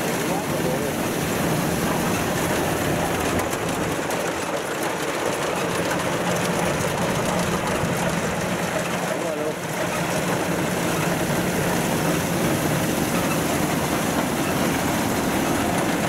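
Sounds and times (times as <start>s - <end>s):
diesel engine running: 0.0s - 16.0s
machinery clatter: 0.0s - 16.0s.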